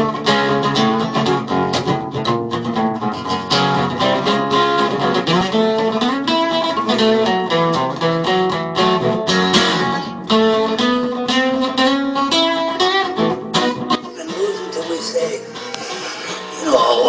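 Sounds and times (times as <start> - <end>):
acoustic blues guitar: 0.0 - 17.0.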